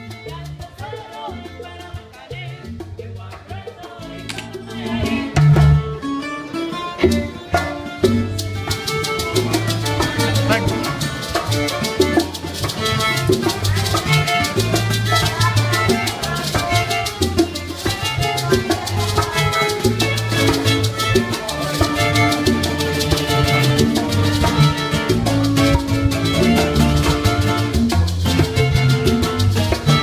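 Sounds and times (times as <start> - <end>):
violin: 0.0 - 3.1, 4.0 - 30.0
bongos: 0.0 - 30.0
electric bass line: 0.0 - 30.0.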